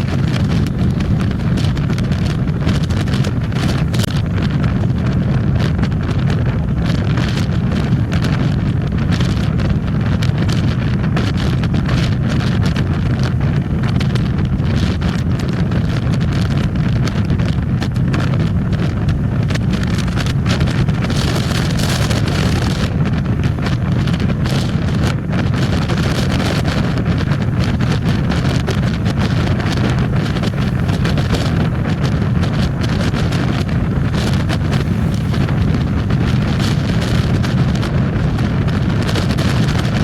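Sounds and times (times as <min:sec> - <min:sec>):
motorcycle running: 0:00.0 - 0:40.0
wind buffeting microphone: 0:00.0 - 0:40.0.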